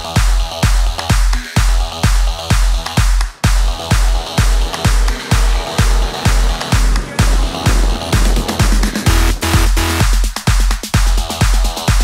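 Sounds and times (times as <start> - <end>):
electronic dance music: 0.0 - 12.0
heavy kick drum: 0.0 - 12.0.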